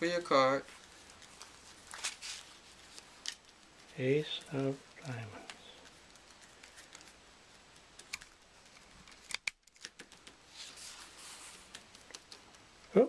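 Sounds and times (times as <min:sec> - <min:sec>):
soft sliding hiss: 0:00.0 - 0:09.4, 0:10.0 - 0:13.0.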